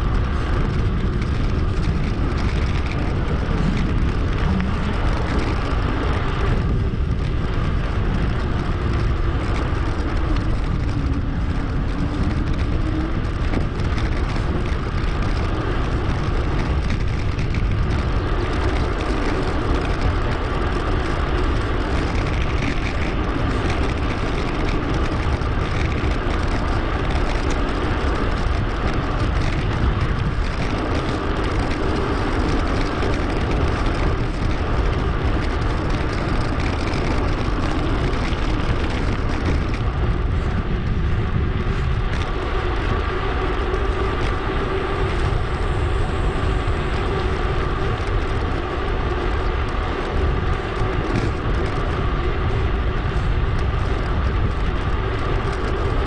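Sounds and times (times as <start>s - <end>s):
road and tyre noise: 0.0s - 56.0s
wind buffeting microphone: 0.0s - 56.0s.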